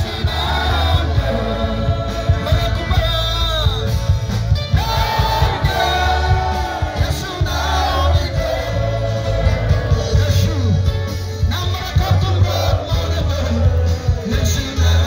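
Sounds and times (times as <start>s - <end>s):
gospel music over loudspeakers: 0.0s - 15.0s.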